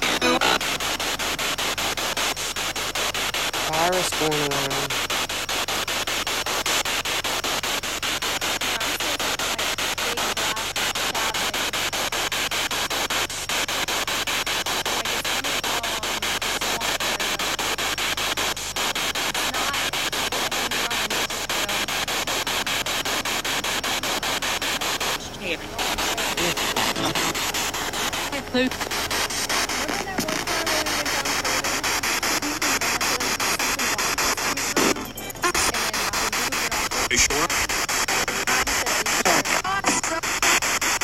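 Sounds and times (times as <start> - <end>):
chopped radio static: 0.0 - 41.0.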